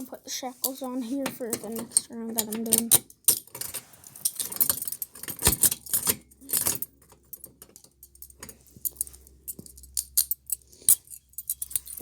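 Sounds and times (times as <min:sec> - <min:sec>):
metal chain clinking: 0:00.6 - 0:12.0.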